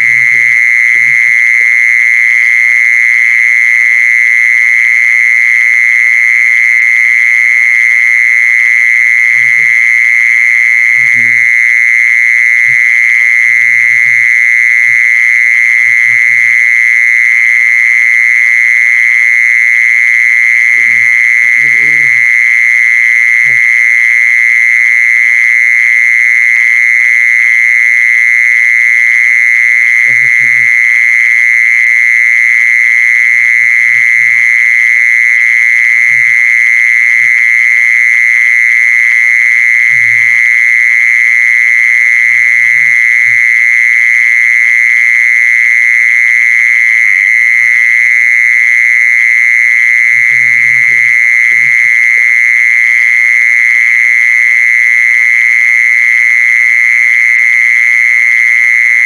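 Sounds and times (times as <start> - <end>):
insect high-pitched trill: 0.0 - 57.0.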